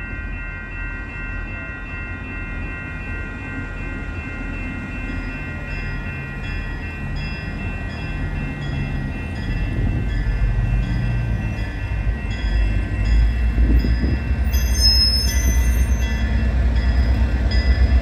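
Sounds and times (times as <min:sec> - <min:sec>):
diesel locomotive engines rumbling: 0:00.0 - 0:18.0
high ringing tones: 0:00.0 - 0:18.0.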